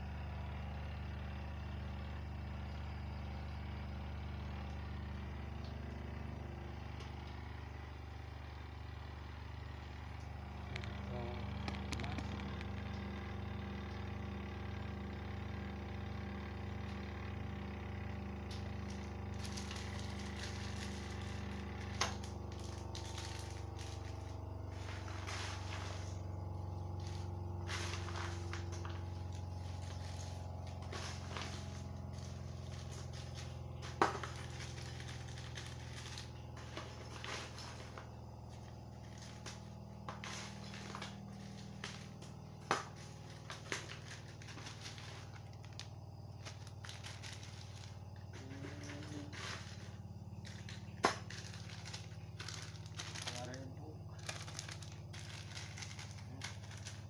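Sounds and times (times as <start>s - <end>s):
low motor hum: 0.0s - 57.0s.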